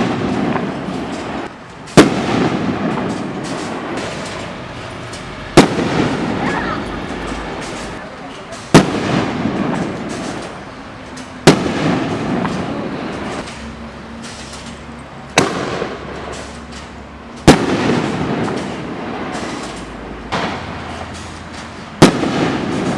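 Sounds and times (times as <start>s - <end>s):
firework shells booming: 0.0s - 10.6s, 11.2s - 13.6s, 15.3s - 22.9s.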